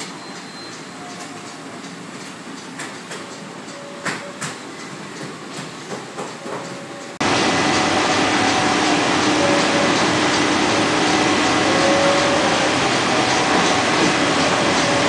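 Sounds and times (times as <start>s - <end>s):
label press mechanical whir: 0.0s - 15.0s.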